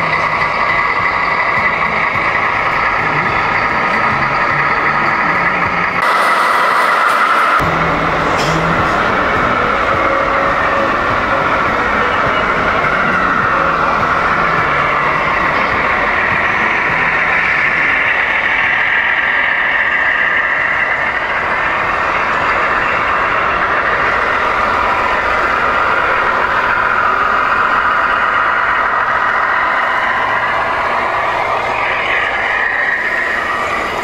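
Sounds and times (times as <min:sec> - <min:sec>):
model trucks engine din: 0:00.0 - 0:34.0.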